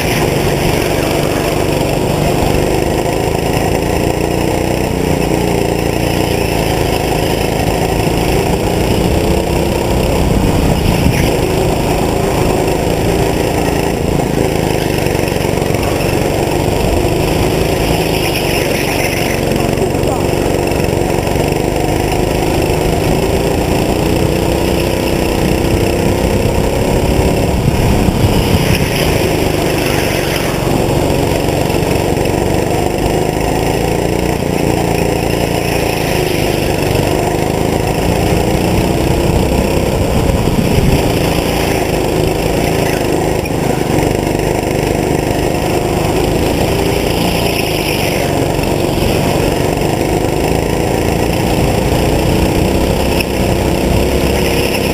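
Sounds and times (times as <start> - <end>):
go-kart engine revving: 0.0 - 54.9.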